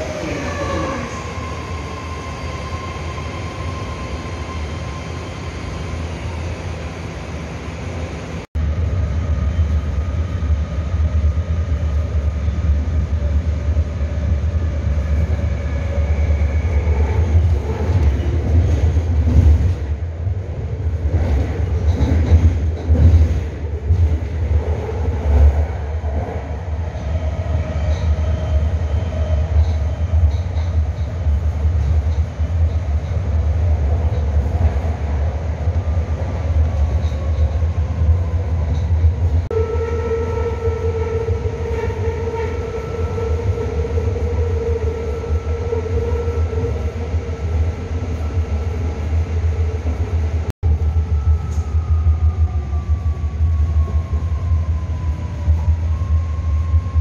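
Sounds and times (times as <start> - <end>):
train rumble inside passenger car: 7.6 - 57.0.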